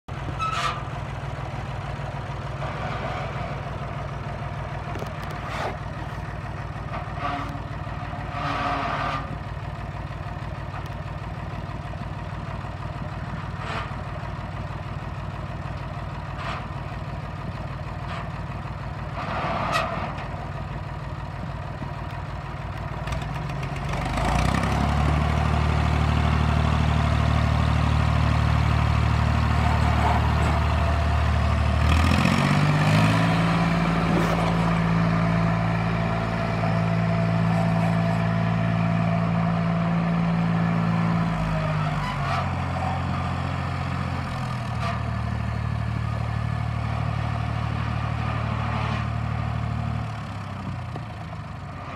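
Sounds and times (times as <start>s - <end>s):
tractor engine running: 0.1s - 51.9s.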